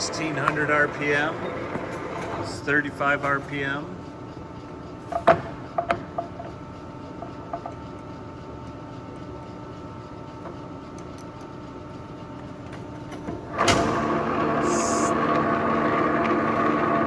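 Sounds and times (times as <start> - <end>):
lathe motor and gearing hum: 0.0 - 17.0.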